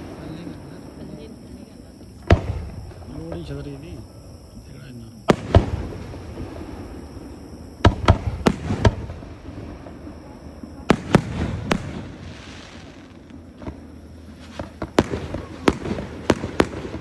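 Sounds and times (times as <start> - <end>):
crackling hiss: 0.0 - 17.0
fireworks bangs: 0.0 - 17.0.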